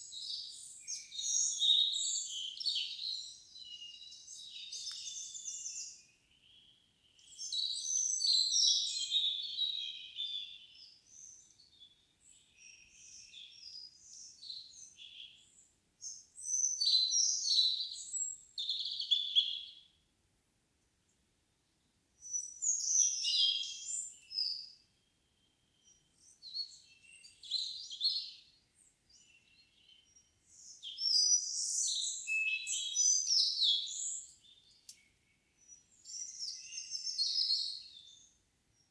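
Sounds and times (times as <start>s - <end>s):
songbirds twittering: 0.0s - 19.9s, 21.7s - 38.9s.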